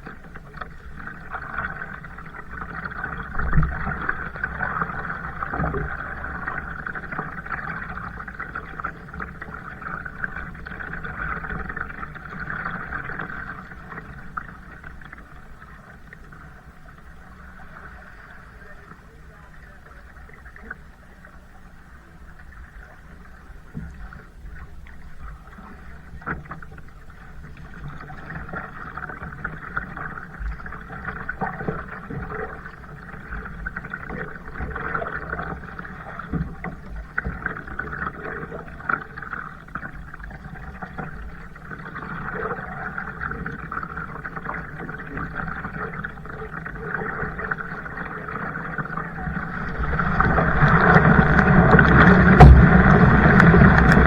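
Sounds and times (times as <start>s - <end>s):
water sloshing around a kayak: 0.0s - 54.0s.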